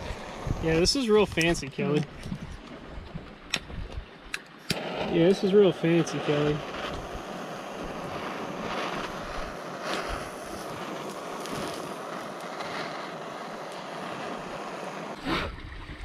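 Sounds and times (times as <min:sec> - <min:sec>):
kitchen torch hissing: 0:00.0 - 0:02.3, 0:04.6 - 0:15.3.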